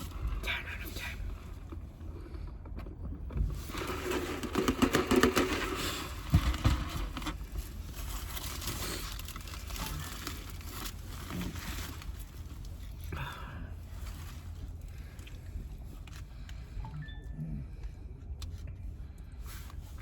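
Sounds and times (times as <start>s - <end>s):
steady low rumble: 0.0s - 4.1s, 5.8s - 20.0s
rustling and crinkling handling: 0.0s - 16.8s.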